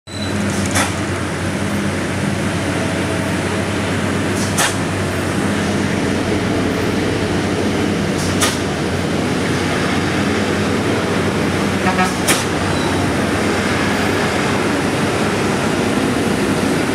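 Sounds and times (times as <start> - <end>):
low drone of vehicle engines: 0.1 - 16.9.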